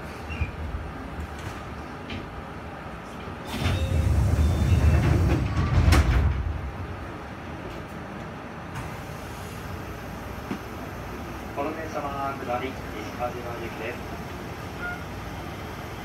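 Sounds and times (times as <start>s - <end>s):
electric train rumble: 0.0s - 16.0s
train running noise: 0.0s - 16.0s.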